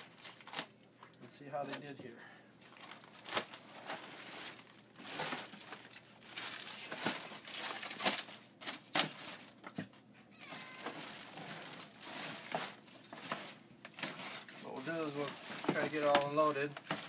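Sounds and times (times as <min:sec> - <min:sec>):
plastic wrapping crinkling: 0:00.0 - 0:01.9, 0:02.6 - 0:09.6, 0:10.4 - 0:17.0.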